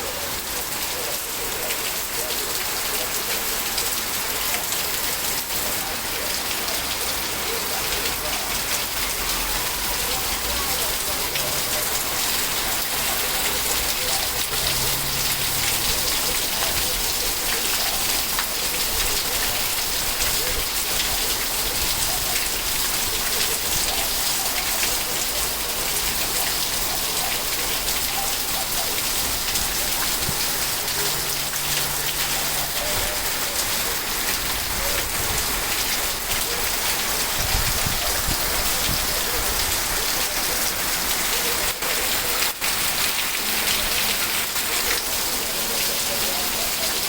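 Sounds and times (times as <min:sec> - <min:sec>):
rain pattering: 0:00.0 - 0:47.0.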